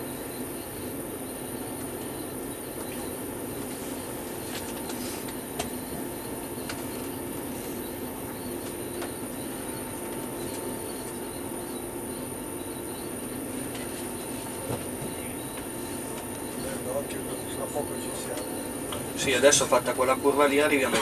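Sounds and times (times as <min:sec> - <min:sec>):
train running noise with hum: 0:00.0 - 0:21.0.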